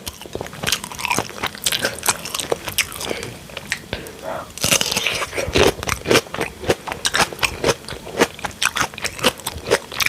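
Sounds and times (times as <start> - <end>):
crunchy chewing: 0.0 - 10.0.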